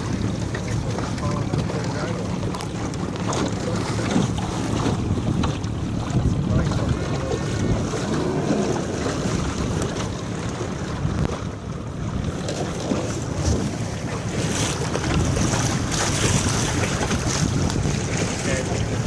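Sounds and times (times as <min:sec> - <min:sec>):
water splashing against hull: 0:00.0 - 0:19.0
wind buffeting microphone: 0:00.0 - 0:19.0.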